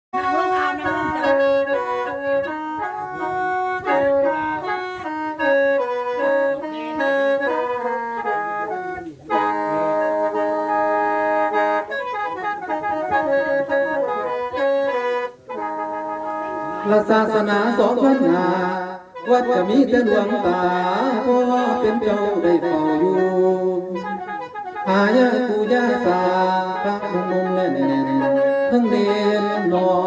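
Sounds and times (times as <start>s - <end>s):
reedy melody over drone: 0.2s - 30.0s.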